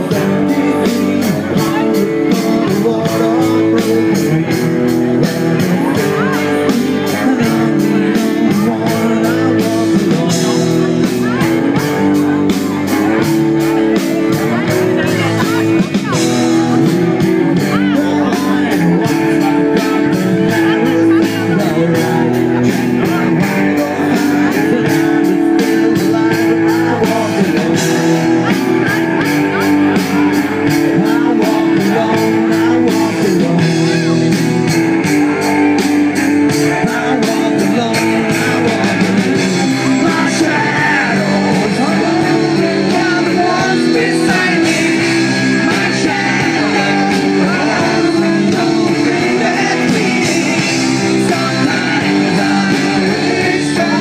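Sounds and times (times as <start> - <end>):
drum beat: 0.0 - 54.0
electric guitar: 0.0 - 54.0
man singing into microphone: 0.0 - 54.0.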